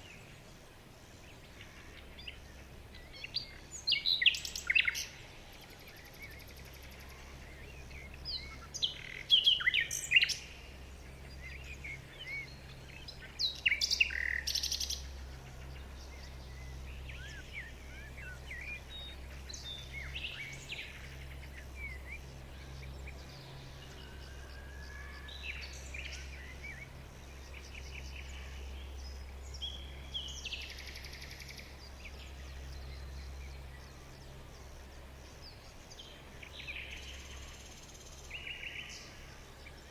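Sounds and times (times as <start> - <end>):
songbirds chirping: 0.0 - 39.9
steady low hum: 0.0 - 39.9.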